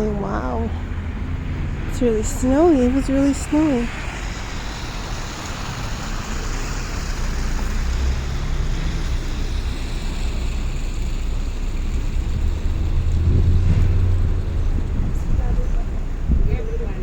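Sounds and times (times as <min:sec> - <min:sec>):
low engine rumble: 0:00.0 - 0:17.0
passing vehicles rush: 0:00.0 - 0:17.0.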